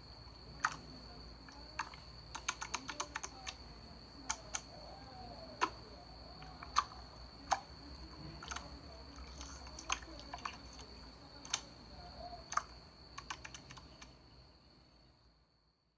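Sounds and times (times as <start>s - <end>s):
faint high-pitched whine: 0.0s - 15.9s.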